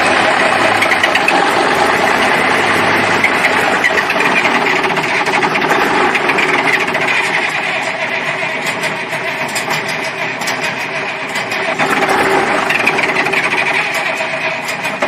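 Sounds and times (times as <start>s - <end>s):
diesel truck engine clattering: 0.0s - 15.0s.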